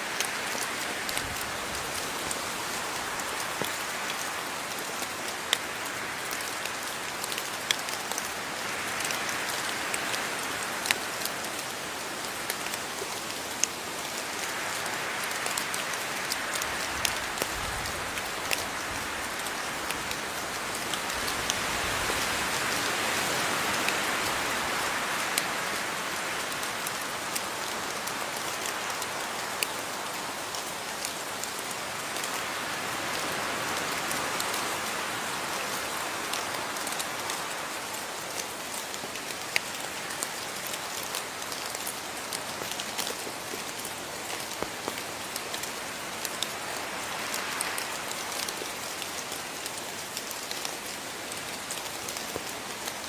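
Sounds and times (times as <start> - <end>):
raindrops ticking on a surface: 0.0 - 53.0
steady rain falling: 0.0 - 53.0.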